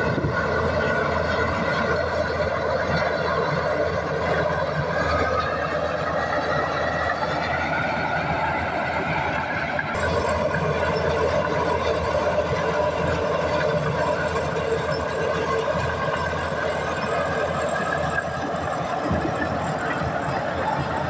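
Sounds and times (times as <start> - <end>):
bulldozer diesel engine under load: 0.0 - 21.0
steel tracks running: 0.0 - 21.0.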